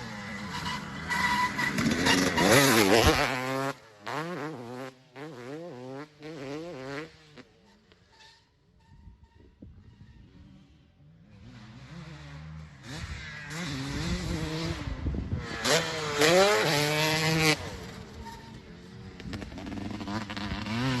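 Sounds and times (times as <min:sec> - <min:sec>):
motocross bike engine revving: 0:00.0 - 0:07.9, 0:10.2 - 0:21.0.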